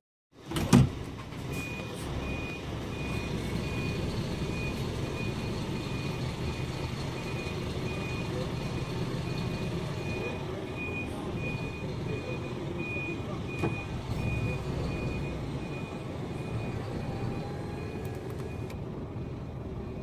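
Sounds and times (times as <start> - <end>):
diesel engine running: 0.9 - 20.0
reversing alarm beeps: 1.5 - 20.0.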